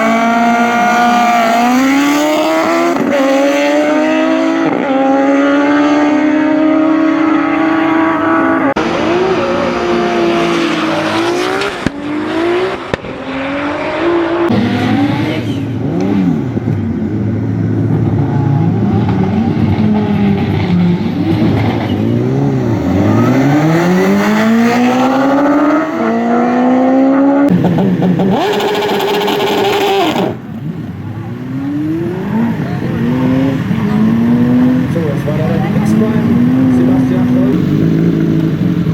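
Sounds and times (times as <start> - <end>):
drag racing engines revving: 0.0 - 38.9.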